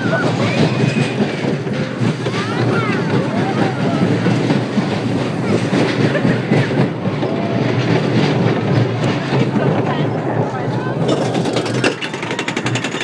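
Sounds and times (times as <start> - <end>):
roller coaster clattering on track: 0.0 - 13.0.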